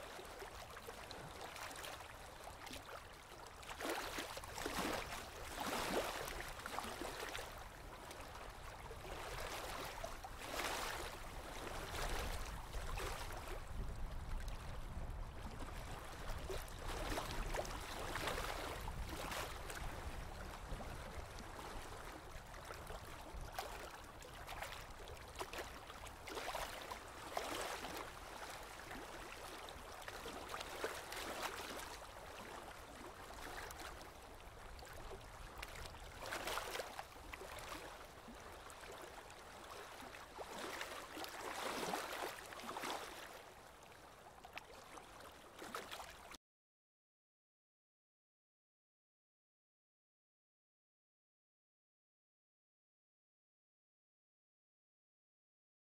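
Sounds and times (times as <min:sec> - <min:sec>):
water lapping and gurgling: 0:00.0 - 0:46.4.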